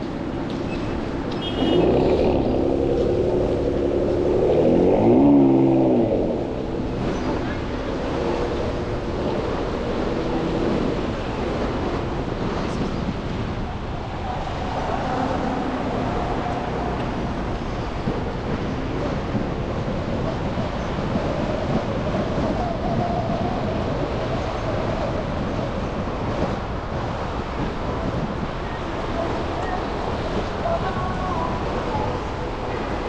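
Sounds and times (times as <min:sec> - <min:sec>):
low engine hum: 0:00.0 - 0:33.0
tyre and road noise: 0:00.0 - 0:33.0.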